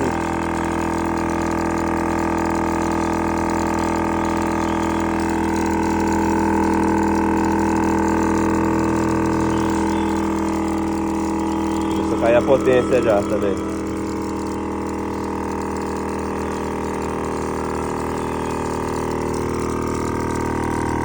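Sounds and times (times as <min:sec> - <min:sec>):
air compressor humming: 0:00.0 - 0:21.0.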